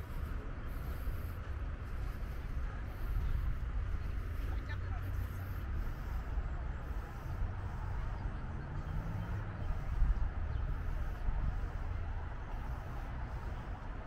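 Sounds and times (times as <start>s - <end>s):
distant indistinct voices: 0.0s - 14.0s
steady low rumble: 0.0s - 14.0s.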